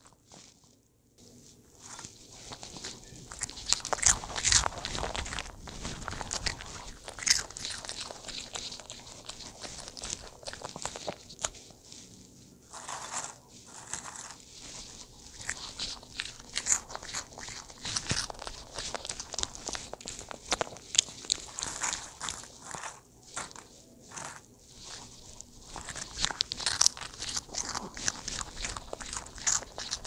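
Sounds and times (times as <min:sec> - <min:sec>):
dog crunching snacks: 0:01.8 - 0:30.0.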